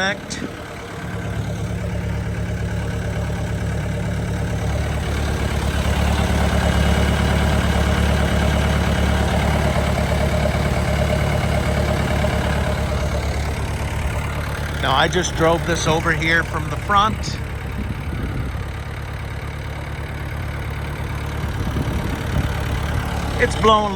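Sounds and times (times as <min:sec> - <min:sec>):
skid steer engine idling: 0:00.0 - 0:23.9.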